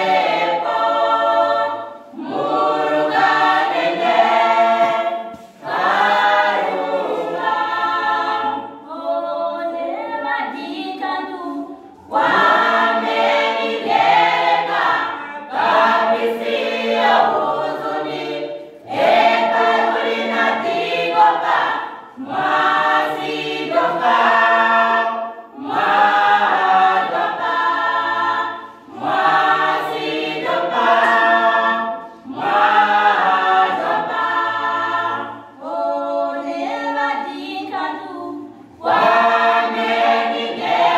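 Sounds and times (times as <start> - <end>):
youth choir singing a cappella: 0.0 - 40.9.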